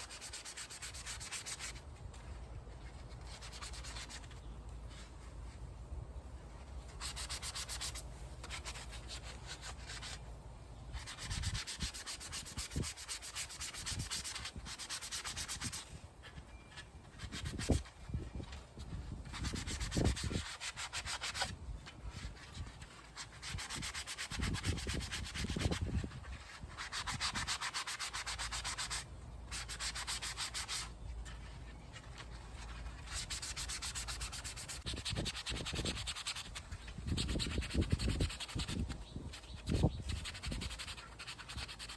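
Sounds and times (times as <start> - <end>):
sandpaper rubbing on plastic: 0.0 - 5.6, 6.5 - 41.9.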